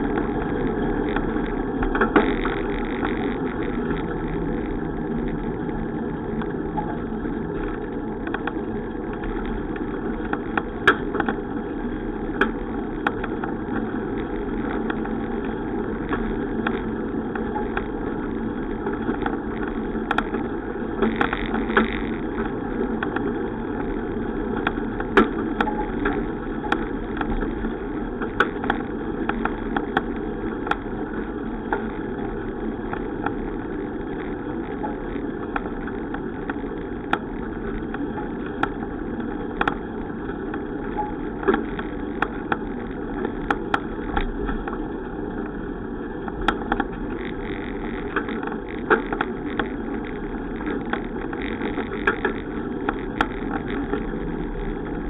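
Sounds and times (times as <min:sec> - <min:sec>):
bicycle clicks and rattles: 0:00.0 - 0:55.0
wind and road noise: 0:00.0 - 0:55.0.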